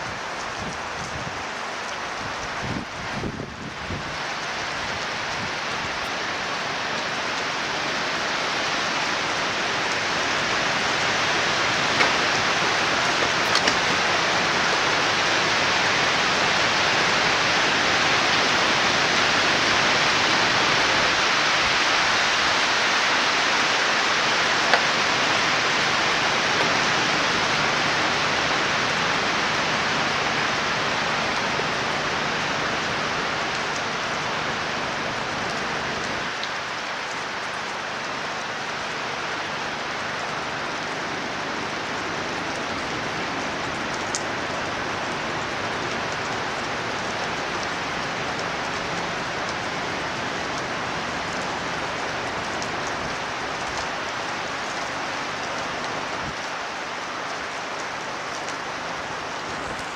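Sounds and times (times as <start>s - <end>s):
rain: 0.0s - 59.9s
wind: 0.0s - 59.9s.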